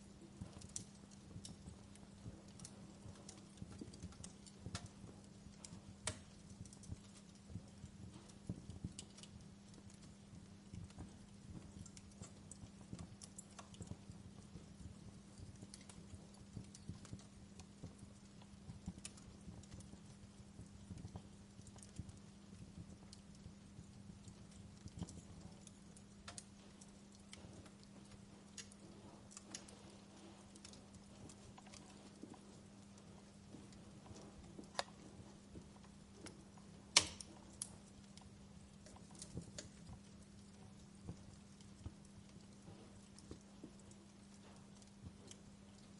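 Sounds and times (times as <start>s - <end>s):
fire crackling: 0.0s - 45.9s
low steady hum: 0.0s - 45.9s.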